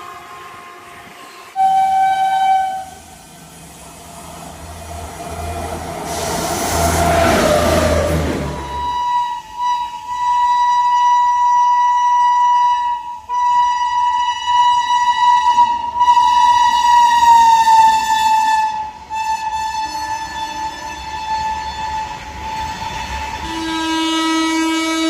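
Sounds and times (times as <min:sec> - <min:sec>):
train horn long note: 0:00.0 - 0:03.3, 0:04.6 - 0:25.0.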